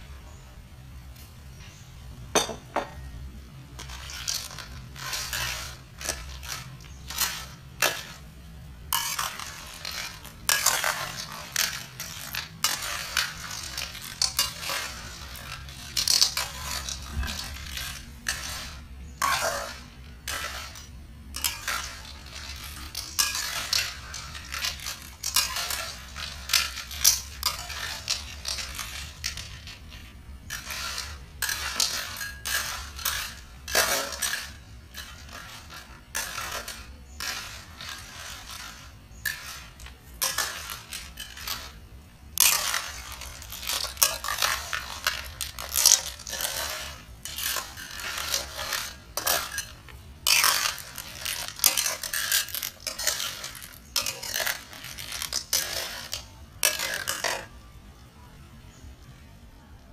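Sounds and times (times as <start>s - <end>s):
shells and utensils clinking dishes: 2.3s - 41.8s, 42.4s - 57.6s.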